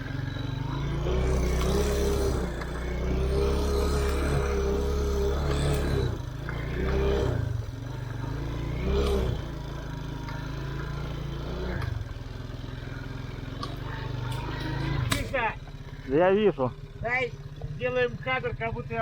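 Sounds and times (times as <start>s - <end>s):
off-road motorcycle engine: 0.0s - 19.0s.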